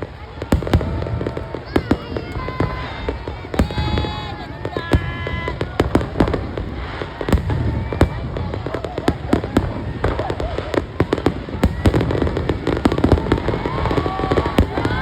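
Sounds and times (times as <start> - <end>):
fireworks bangs and crackles: 0.0 - 15.0
fireworks rumble: 0.0 - 15.0.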